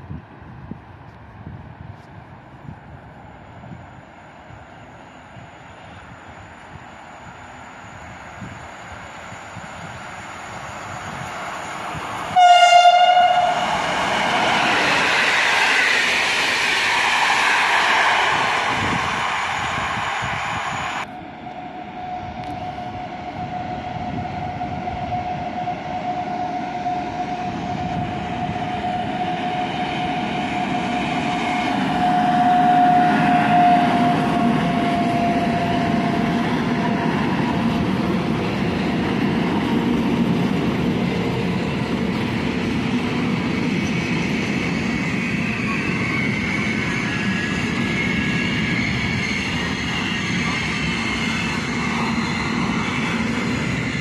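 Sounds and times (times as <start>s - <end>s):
electric locomotive whine: 0.0s - 54.0s
train rumble and rail clatter: 0.0s - 54.0s.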